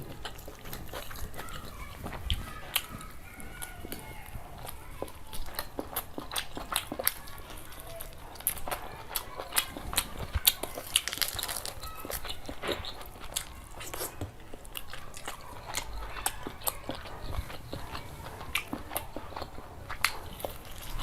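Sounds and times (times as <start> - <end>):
person chewing wet crunches: 0.0 - 21.0.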